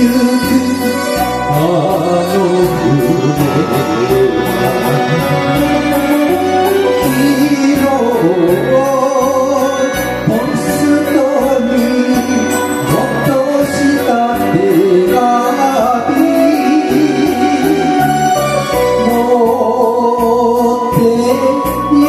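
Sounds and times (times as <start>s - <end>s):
man singing into microphone: 0.0s - 5.5s, 6.3s - 22.0s
karaoke backing track: 0.0s - 22.0s.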